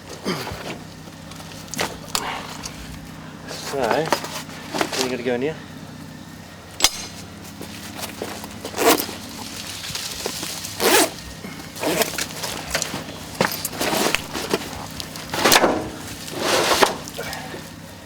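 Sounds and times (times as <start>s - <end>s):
gear rustling and scraping: 0.0s - 18.0s
low steady hum: 0.0s - 18.0s.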